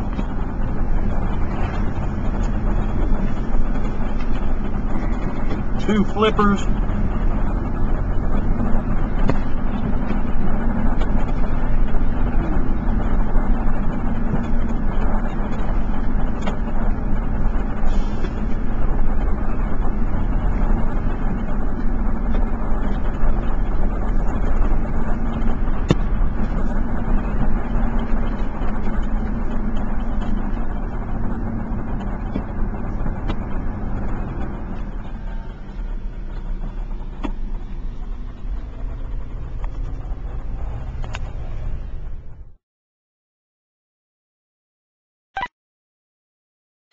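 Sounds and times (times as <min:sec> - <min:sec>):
vehicle engine and road noise: 0:00.0 - 0:42.6.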